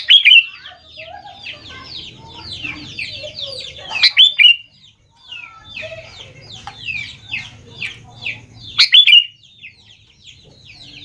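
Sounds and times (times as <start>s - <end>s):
bulbul chirping: 0.0s - 11.0s.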